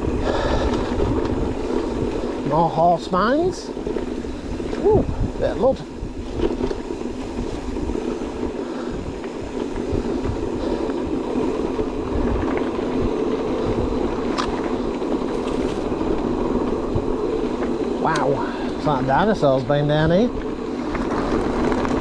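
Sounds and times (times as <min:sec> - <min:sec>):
bike rattling over bumps: 0:00.0 - 0:22.0
bike rumbling on rough trail: 0:00.0 - 0:22.0.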